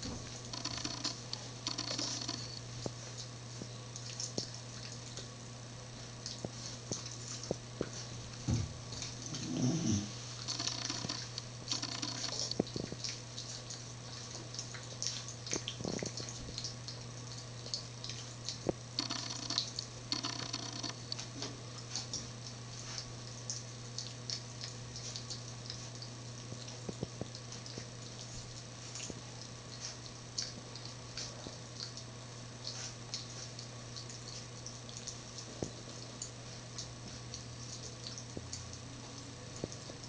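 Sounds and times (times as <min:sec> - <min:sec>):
steady low hum: 0:00.0 - 0:40.0
puppy chewing wet clicks: 0:00.4 - 0:05.4, 0:06.0 - 0:09.4, 0:10.4 - 0:40.0.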